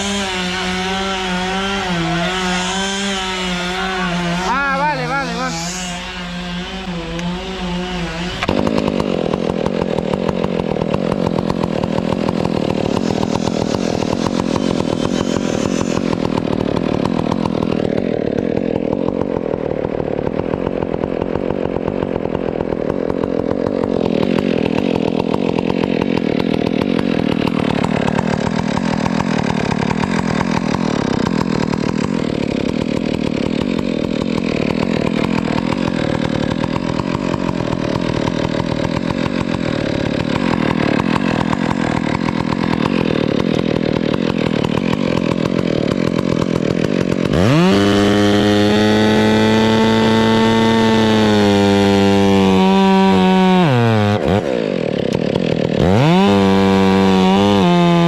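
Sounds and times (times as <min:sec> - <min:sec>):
chainsaw cutting at full throttle: 0:00.0 - 0:58.0.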